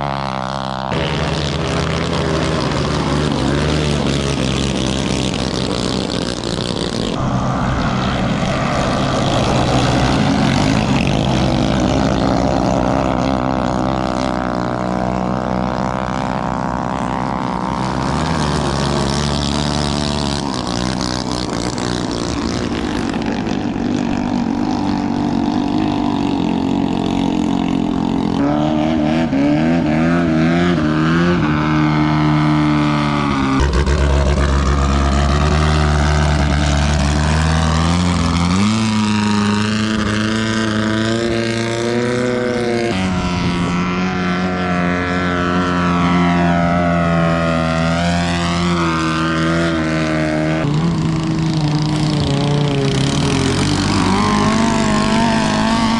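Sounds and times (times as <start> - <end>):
boat engine running: 0.0 - 55.9.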